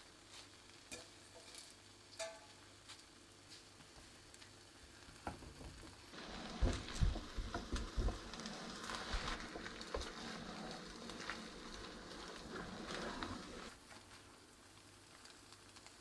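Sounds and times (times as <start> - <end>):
omelette sizzling in a frying pan: 0.0 - 16.0.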